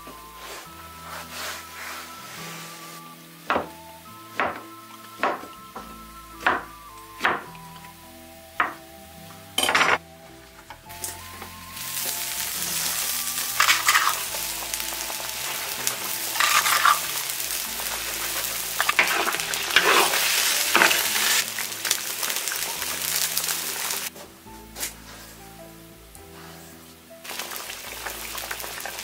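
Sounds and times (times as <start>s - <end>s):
meat sizzling in sauce in a wok: 0.0s - 9.6s, 10.2s - 29.0s.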